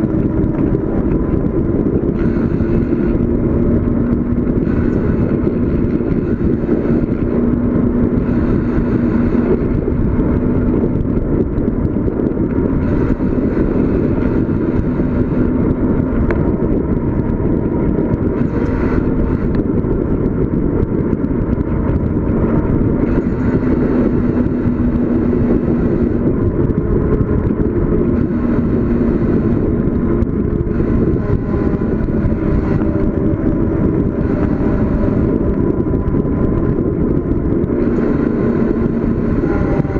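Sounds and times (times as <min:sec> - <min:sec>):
faint steady tones: 0:00.0 - 0:39.9
wind and road noise: 0:00.0 - 0:39.9.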